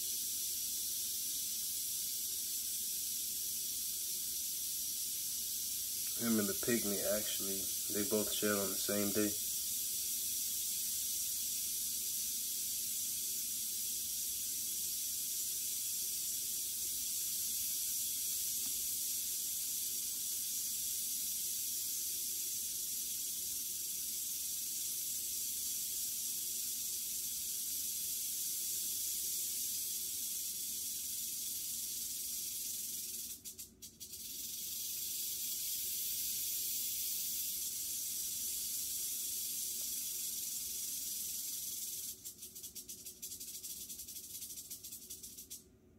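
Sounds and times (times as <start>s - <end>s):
rattlesnake rattling: 0.0s - 45.7s.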